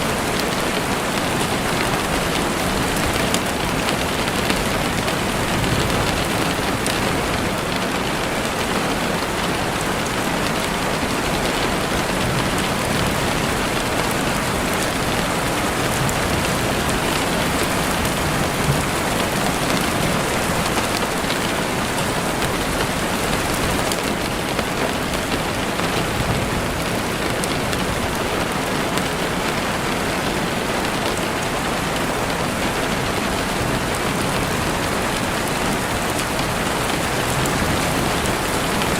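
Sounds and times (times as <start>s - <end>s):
rain falling on foliage: 0.0s - 38.9s.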